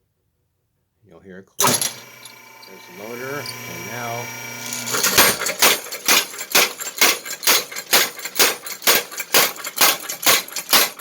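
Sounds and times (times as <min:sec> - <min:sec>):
power hammer striking metal: 0:01.6 - 0:11.0.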